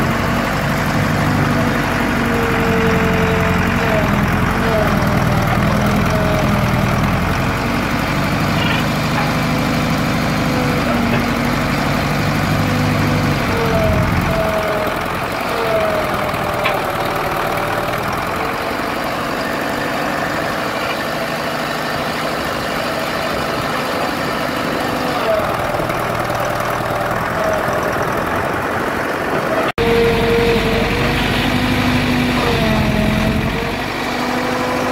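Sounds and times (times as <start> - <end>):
diesel engine running: 0.0 - 34.9
hydraulic whining: 0.0 - 34.9.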